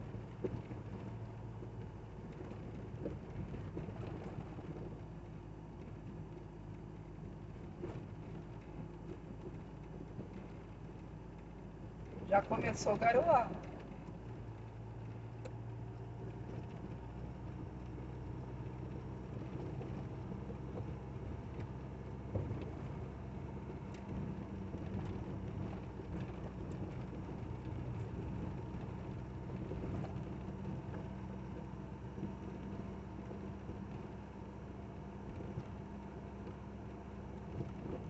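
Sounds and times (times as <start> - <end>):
engine drone: 0.0 - 38.0
road noise: 0.0 - 38.0.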